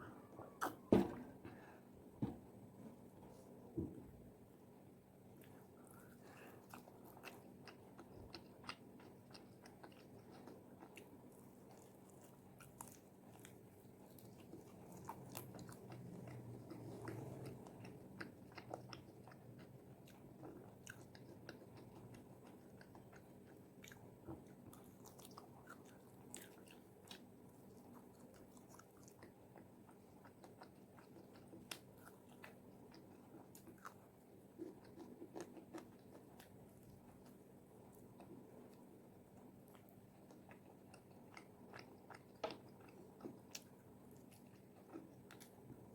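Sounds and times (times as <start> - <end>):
soft chewing: 0.0 - 45.9.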